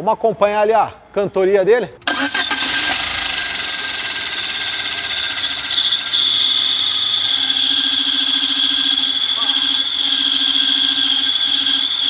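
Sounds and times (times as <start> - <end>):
high-pitched clutch squeal: 2.1 - 12.0.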